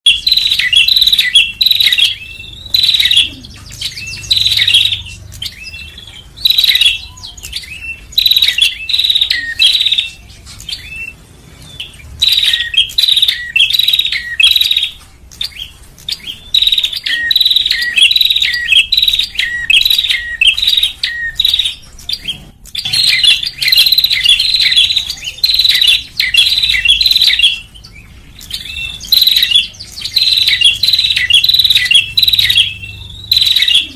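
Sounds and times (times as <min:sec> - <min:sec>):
bird chirping high phrases: 0:00.0 - 0:33.9.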